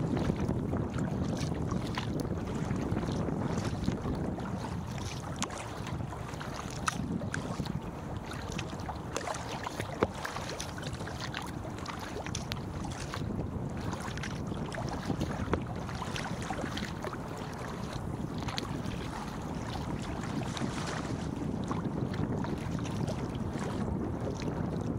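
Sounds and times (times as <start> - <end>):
water lapping against hull: 0.0 - 24.9
wind rumble on microphone: 0.0 - 24.9
paddle splashes and drips: 0.1 - 24.9.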